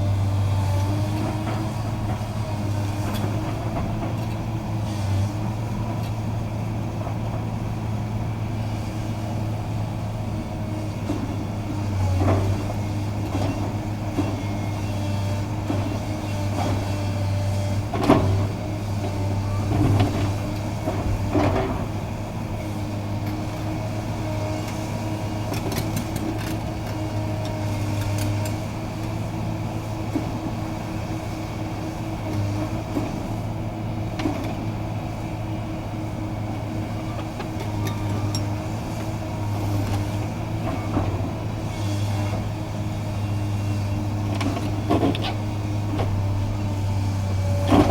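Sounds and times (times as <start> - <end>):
demolition machine engine hum: 0.0 - 47.9.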